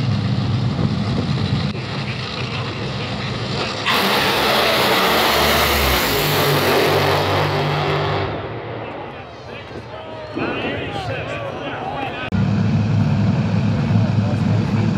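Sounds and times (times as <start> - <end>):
dragster engines roaring: 0.0 - 14.9.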